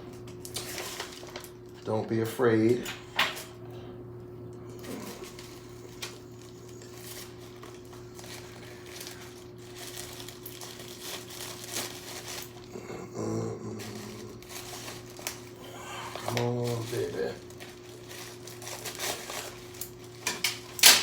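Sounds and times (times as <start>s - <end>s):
steady low hum: 0.0s - 20.9s
packing wrap crinkling: 0.2s - 1.9s, 4.7s - 21.0s.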